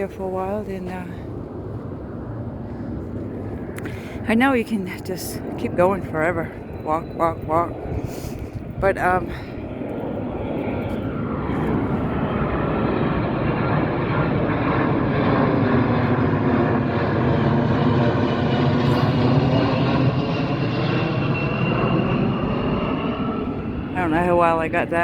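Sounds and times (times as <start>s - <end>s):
airplane flying low overhead: 0.0s - 25.0s.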